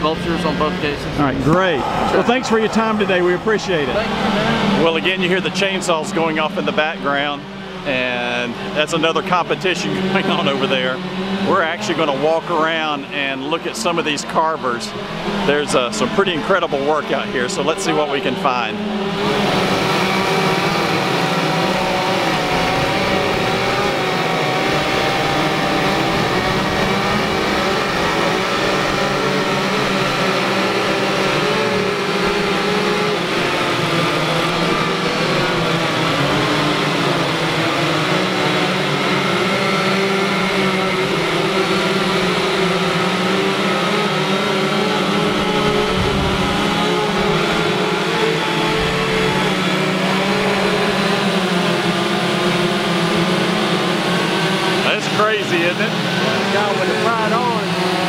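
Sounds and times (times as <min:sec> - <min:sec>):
chainsaws running: 0:00.0 - 0:58.0.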